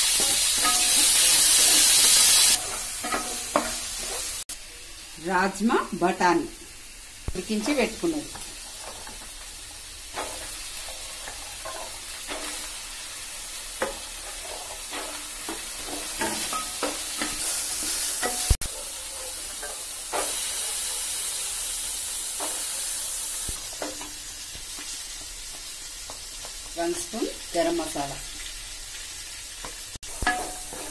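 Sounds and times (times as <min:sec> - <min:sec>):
vegetables sizzling in oil: 0:00.0 - 0:30.9.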